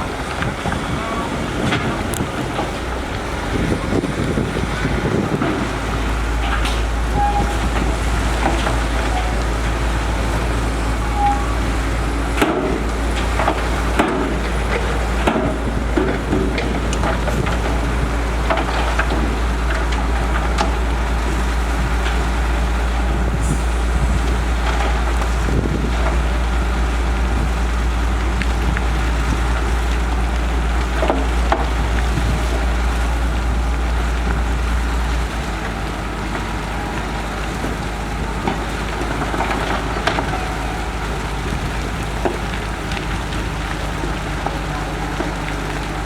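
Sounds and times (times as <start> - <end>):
diesel machinery engine rumble: 0.0 - 46.0.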